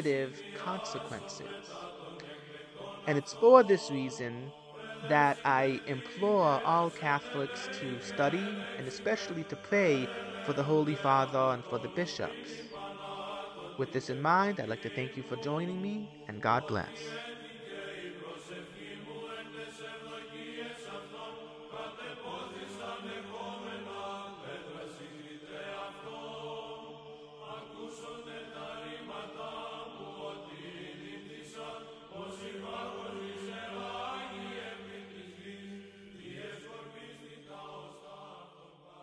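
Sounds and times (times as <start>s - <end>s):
voices singing slow chant: 0.0s - 39.0s.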